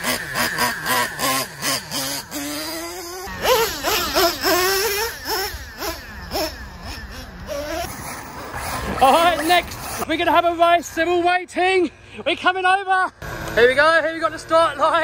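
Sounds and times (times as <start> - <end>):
small two-stroke engine revving: 0.0 - 10.3, 13.2 - 15.0.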